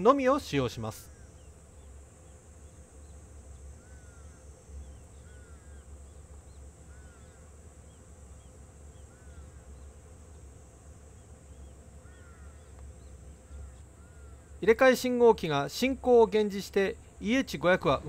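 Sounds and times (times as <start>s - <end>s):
bird chirping: 0.0s - 14.8s
high insect drone: 0.0s - 18.0s
low steady rumble: 0.0s - 18.0s.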